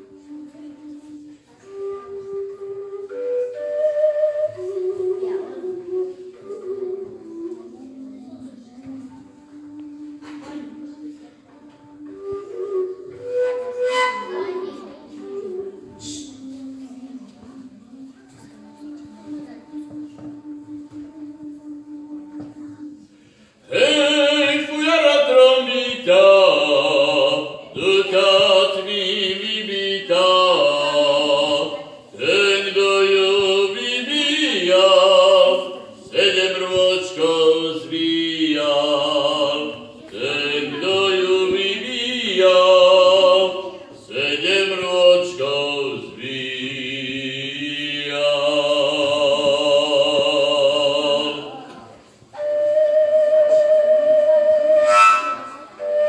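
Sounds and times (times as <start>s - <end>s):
long wooden overtone flute: 0.0s - 44.9s, 46.0s - 56.0s.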